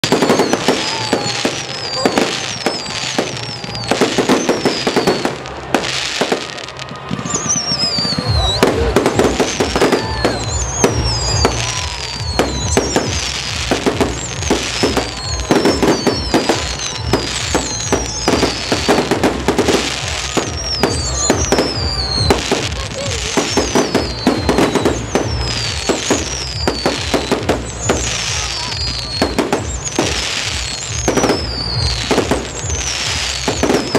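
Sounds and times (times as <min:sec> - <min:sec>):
firework bangs and crackles: 0:00.0 - 0:33.9
firework whistles falling in pitch: 0:00.0 - 0:33.9.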